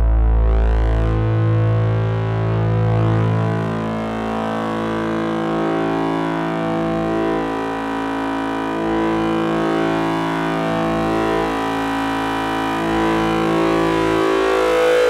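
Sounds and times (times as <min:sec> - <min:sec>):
electronic drone music: 0:00.0 - 0:15.0.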